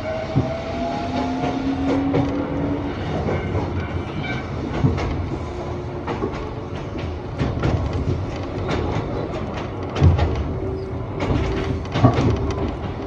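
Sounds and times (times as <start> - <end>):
train rumble from inside car: 0.0 - 13.0
wheels clicking over rail joints: 0.3 - 13.0.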